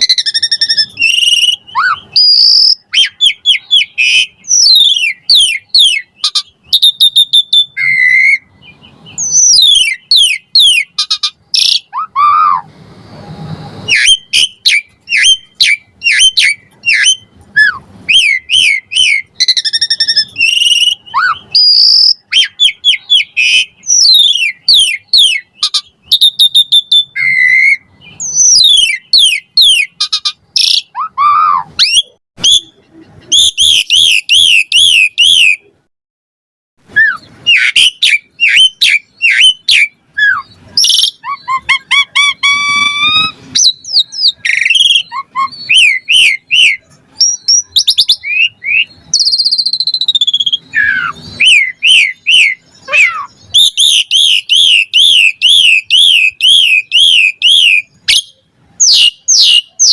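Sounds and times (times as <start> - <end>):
starling singing: 0.0 - 12.7, 13.8 - 35.8, 36.8 - 59.9.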